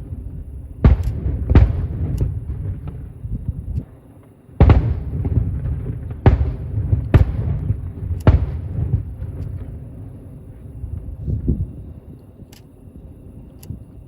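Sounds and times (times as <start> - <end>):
low rolling rumble: 0.0 - 3.8, 4.6 - 12.2
distant firework bangs: 0.0 - 11.8.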